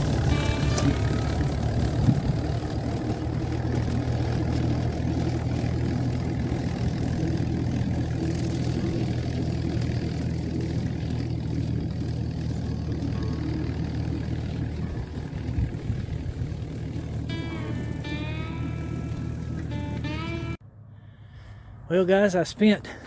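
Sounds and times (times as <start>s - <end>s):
rotary cutter cutting dry grass: 0.0s - 20.4s
tractor engine running: 0.0s - 20.6s.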